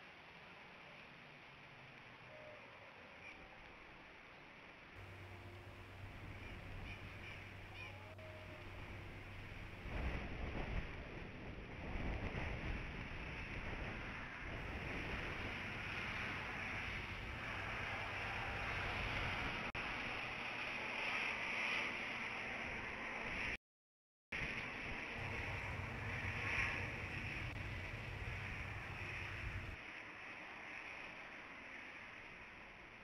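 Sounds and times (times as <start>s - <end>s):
wind and rain on microphone: 0.0s - 23.6s, 24.4s - 33.0s.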